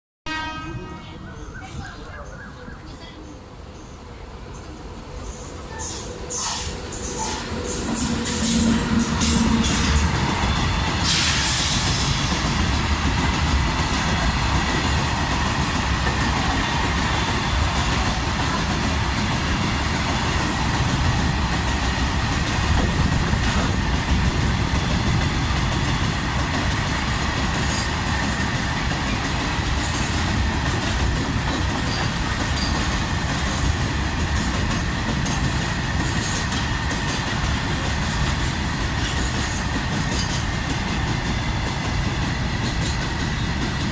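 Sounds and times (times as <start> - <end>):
train wagons rumbling past: 0.3 - 43.9.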